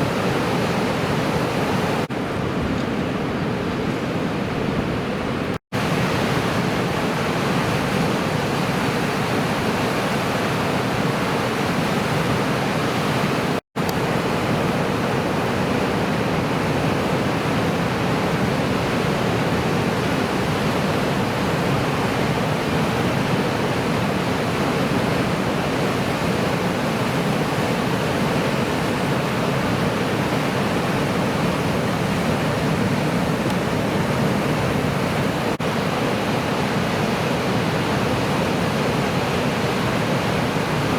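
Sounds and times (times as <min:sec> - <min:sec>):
ocean surf roaring: 0:00.0 - 0:40.9.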